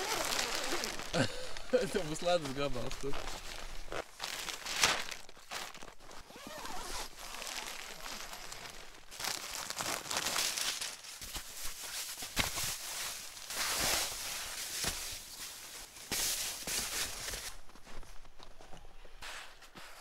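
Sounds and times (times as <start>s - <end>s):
insulating pad and fabric rustling: 0.0s - 18.2s.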